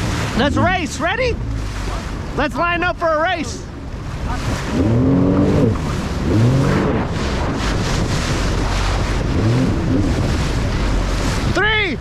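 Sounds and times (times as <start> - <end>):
jet ski engines revving: 0.0 - 12.0
waves rushing: 0.0 - 12.0
wind buffeting microphone: 0.0 - 12.0.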